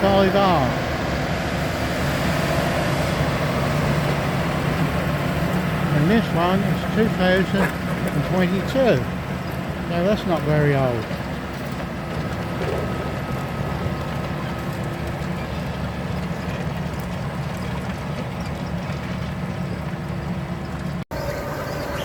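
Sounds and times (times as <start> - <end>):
machinery humming: 0.0 - 22.0
tractor engine under load: 0.0 - 22.0.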